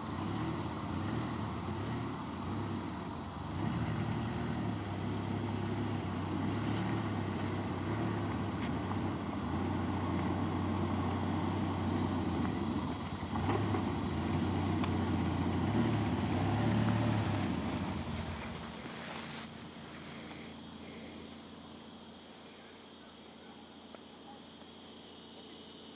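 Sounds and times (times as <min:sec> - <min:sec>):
vehicle engine low drone: 0:00.0 - 0:25.9.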